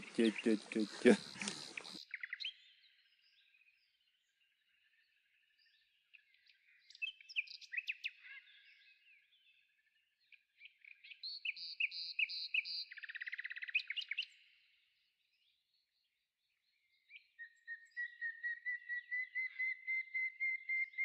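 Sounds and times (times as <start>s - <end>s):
songbirds chirping and whistling: 0.0s - 21.0s.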